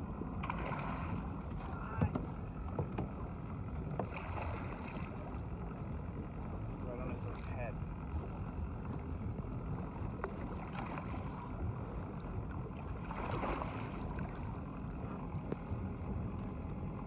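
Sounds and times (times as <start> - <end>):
low rumble of wind and water: 0.0 - 17.0.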